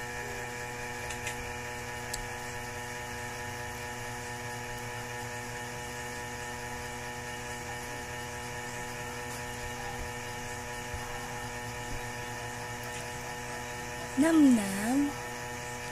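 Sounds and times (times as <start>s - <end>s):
electrical hum: 0.0s - 15.9s.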